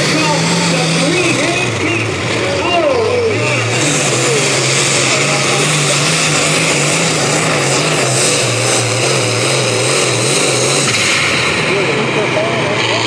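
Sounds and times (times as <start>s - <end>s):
tractor engine running under load: 0.0s - 13.0s.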